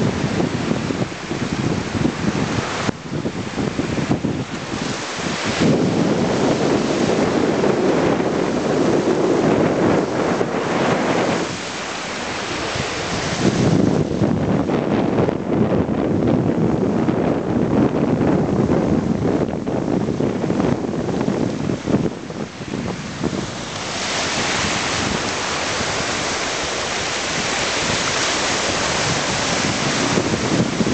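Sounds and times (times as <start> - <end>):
small waves washing on shore: 0.0 - 30.9
wind buffeting microphone: 0.0 - 30.9.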